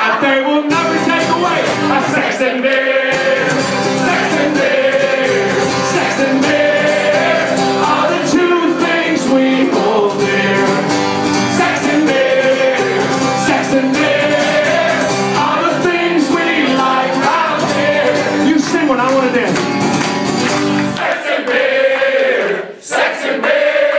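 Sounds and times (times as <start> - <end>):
person singing: 0.0 - 19.3
strummed acoustic guitar: 0.0 - 21.0.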